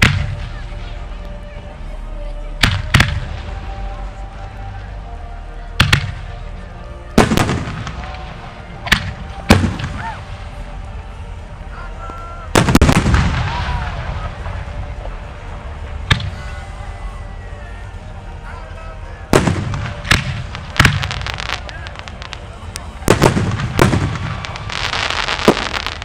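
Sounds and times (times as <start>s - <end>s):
echoing rumble: 0.0s - 26.0s.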